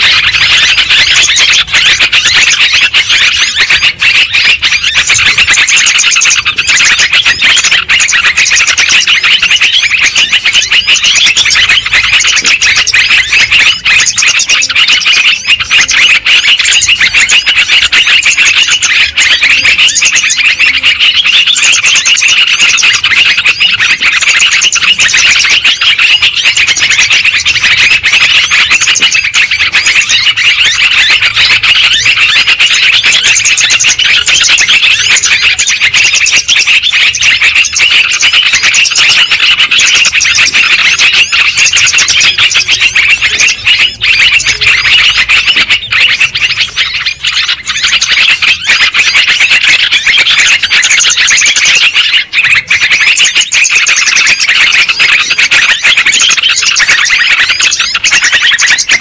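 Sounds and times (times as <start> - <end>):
bulbuls calling and chattering: 0.0 - 59.0.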